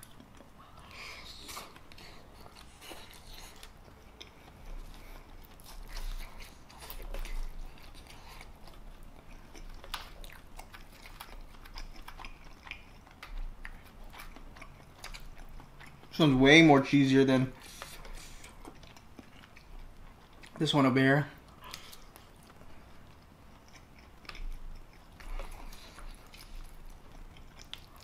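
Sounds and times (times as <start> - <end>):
person chewing food: 0.0 - 20.7, 21.4 - 28.0.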